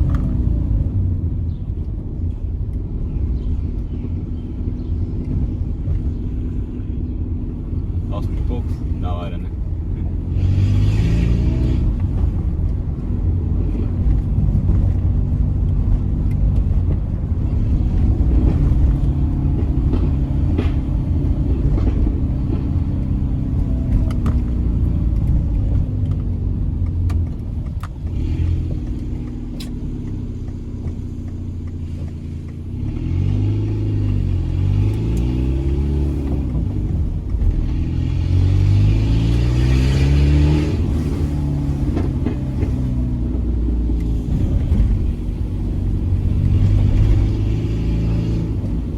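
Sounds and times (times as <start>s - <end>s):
loud droning car engine: 0.0s - 48.9s.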